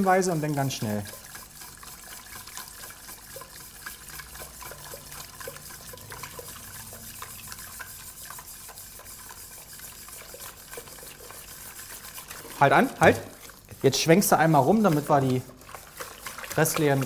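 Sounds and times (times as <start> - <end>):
liquid pouring into pot: 0.0 - 17.0
utensil ticking against pot: 0.0 - 17.0.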